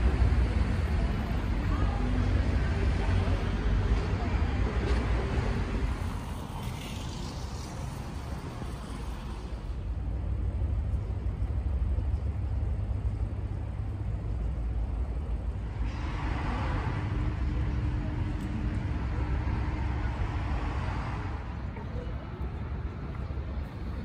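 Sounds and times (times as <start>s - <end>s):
road traffic rumble: 0.0s - 24.0s
vehicles passing: 0.0s - 24.0s.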